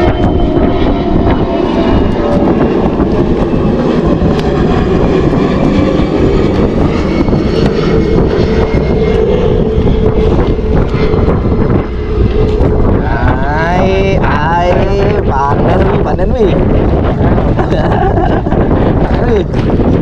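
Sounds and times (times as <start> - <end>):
wind noise on microphone: 0.0 - 20.0.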